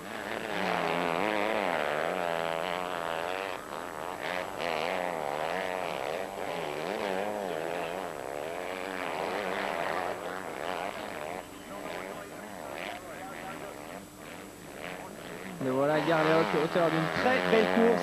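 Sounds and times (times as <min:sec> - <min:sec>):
motocross engine revving: 0:00.0 - 0:18.0.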